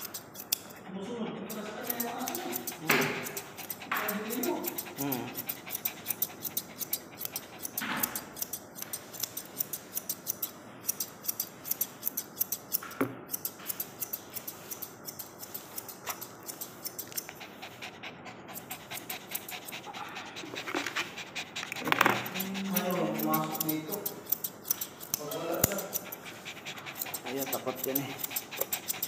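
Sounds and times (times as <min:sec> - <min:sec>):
grooming shears snipping: 0:00.0 - 0:00.8, 0:01.4 - 0:12.8, 0:13.4 - 0:29.0
dog panting: 0:00.0 - 0:10.4, 0:14.4 - 0:29.0.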